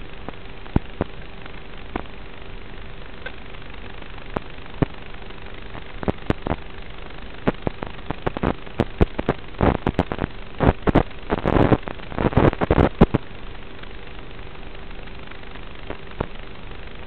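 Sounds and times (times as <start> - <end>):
faint constant hum: 0.0 - 17.0
static crackles and pops: 0.0 - 17.0
static hiss: 0.0 - 17.0.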